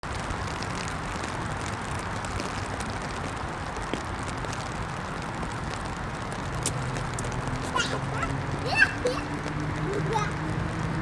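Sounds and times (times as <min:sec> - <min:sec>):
steady rain hissing: 0:00.0 - 0:11.0.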